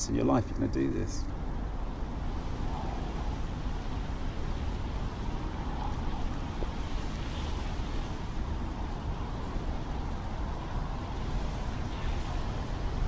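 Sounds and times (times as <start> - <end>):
wind buffeting microphone: 0.0 - 13.0
wind hissing through rushes: 0.0 - 13.0.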